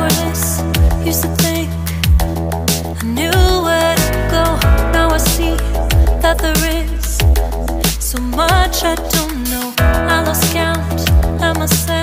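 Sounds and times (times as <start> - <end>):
pop music: 0.0 - 12.0.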